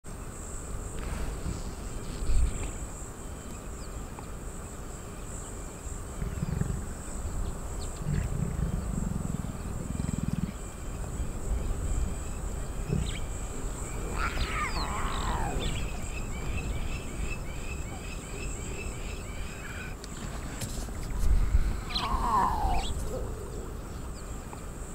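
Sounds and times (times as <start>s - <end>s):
high insect buzz: 0.2s - 23.2s.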